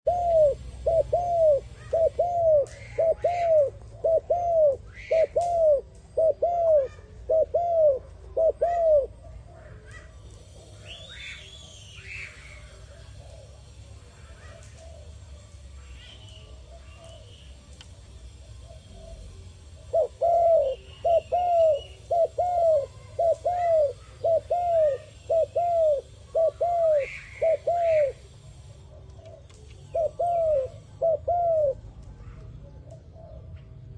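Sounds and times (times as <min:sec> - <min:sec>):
dove cooing: 0:00.0 - 0:11.4, 0:12.2 - 0:15.1, 0:18.5 - 0:33.7
small birds chirping: 0:00.1 - 0:33.9.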